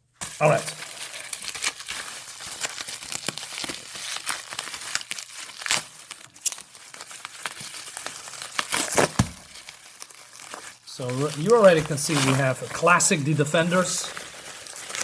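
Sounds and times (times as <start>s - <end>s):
packaging crinkling and tearing: 0.2s - 15.0s.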